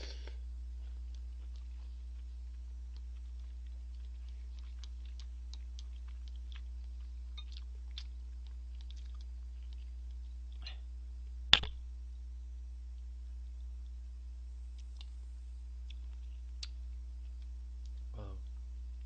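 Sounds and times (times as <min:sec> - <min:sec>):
faint chewing: 0:00.0 - 0:10.9, 0:14.6 - 0:19.0
steady low hum: 0:00.0 - 0:19.0.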